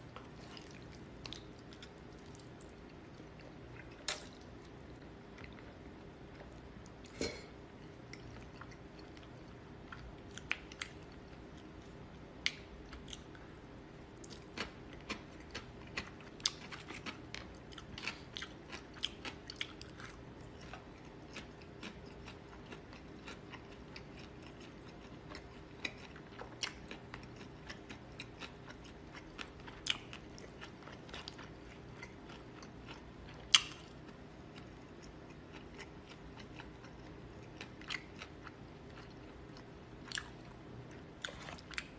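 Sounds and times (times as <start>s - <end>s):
faint steady hum: 0.0s - 41.9s
person chewing noodles: 0.1s - 41.9s.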